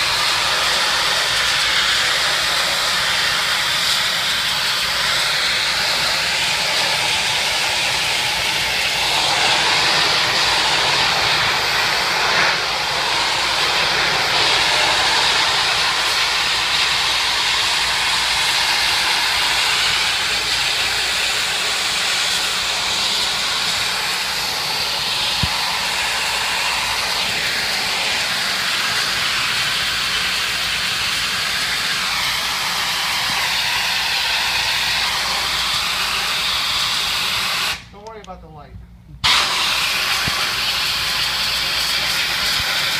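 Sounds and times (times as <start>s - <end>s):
pressure washer spraying tile floor: 0.0s - 37.8s, 39.2s - 42.9s.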